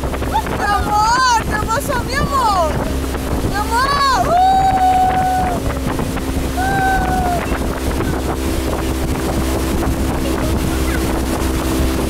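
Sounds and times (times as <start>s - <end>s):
boat motor running: 0.0s - 12.0s
rushing water: 0.0s - 12.0s
wind on microphone: 0.0s - 12.0s.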